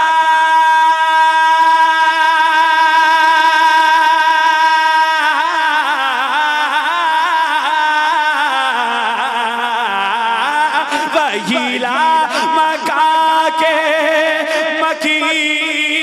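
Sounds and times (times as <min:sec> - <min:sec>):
man singing melismatic vowel: 0:00.0 - 0:16.0.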